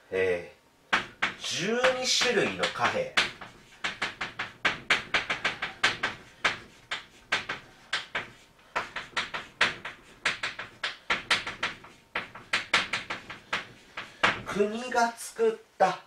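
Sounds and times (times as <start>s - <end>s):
chalk tapping and scratching on blackboard: 0.9s - 14.6s.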